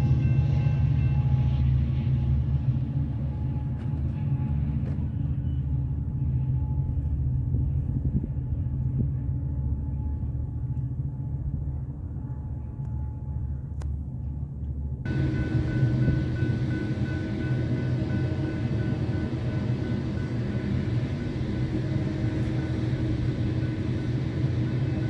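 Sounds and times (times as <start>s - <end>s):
diesel train rumbling: 0.0s - 25.0s.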